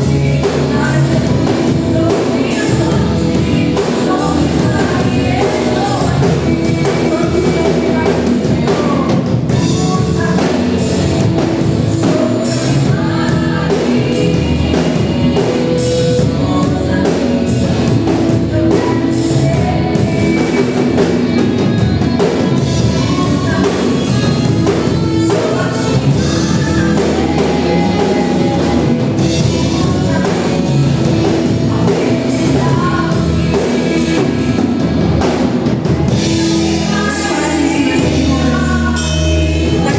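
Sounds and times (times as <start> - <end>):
drum kit: 0.0 - 39.9
voices singing: 0.0 - 39.9
worship band playing: 0.0 - 39.9.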